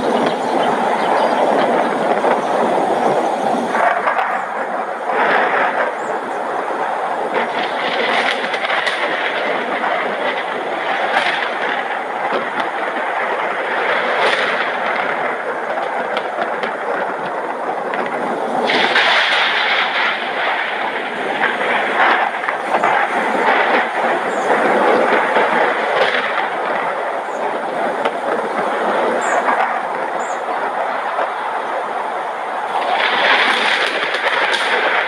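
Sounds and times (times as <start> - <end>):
heavy rain falling: 0.0 - 35.0
sharp raindrop hits: 0.0 - 35.0.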